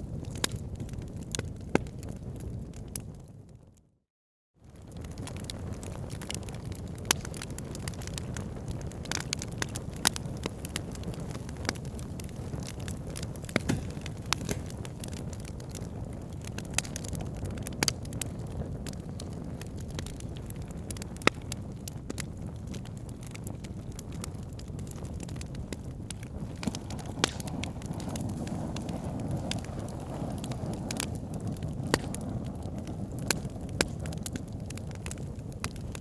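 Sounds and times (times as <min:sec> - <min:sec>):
burning logs crackling and popping: 0:00.0 - 0:03.6, 0:04.6 - 0:36.0
wood fire rumbling: 0:00.0 - 0:03.6, 0:04.6 - 0:36.0.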